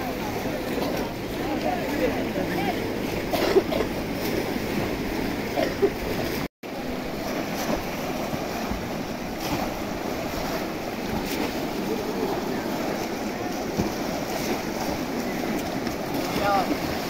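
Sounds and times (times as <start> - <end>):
crowd splashing in water: 0.0 - 17.0.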